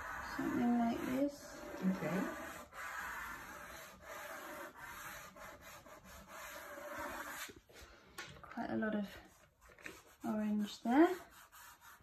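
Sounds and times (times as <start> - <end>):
pastel scratching on paper: 0.0 - 7.8, 9.1 - 12.0.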